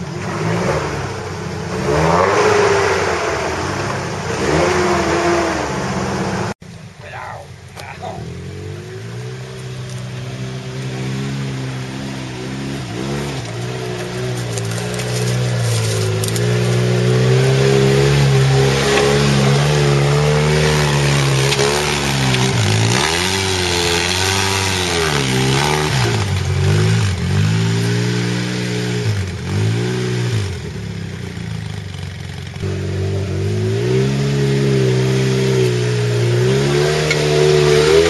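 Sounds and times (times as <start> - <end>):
engine revving: 0.0 - 38.0.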